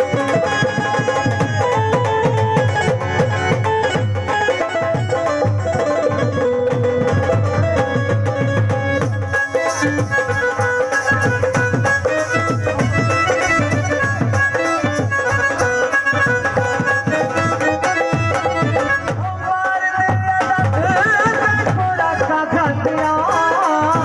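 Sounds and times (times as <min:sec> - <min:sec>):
fast percussion beat: 0:00.0 - 0:24.0
keyboard melody: 0:00.0 - 0:24.0.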